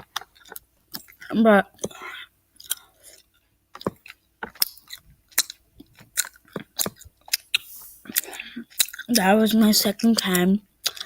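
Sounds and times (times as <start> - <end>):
person chewing gummy candy: 0.0 - 11.0.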